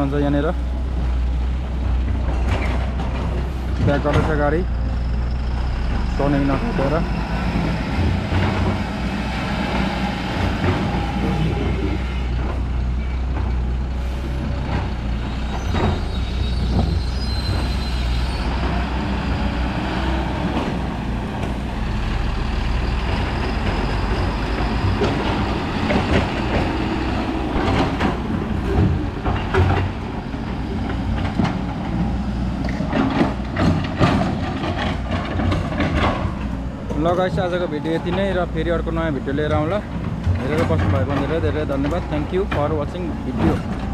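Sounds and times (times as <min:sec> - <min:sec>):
diesel truck engine running: 0:00.0 - 0:43.9
knocks and clatter: 0:01.6 - 0:04.7, 0:07.6 - 0:09.1, 0:09.8 - 0:13.8, 0:14.6 - 0:21.8, 0:22.8 - 0:43.9.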